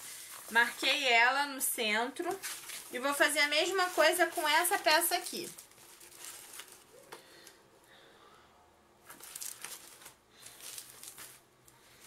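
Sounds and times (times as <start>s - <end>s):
crinkling of metallic fabric: 0.0s - 1.4s, 2.2s - 7.6s, 9.0s - 12.0s.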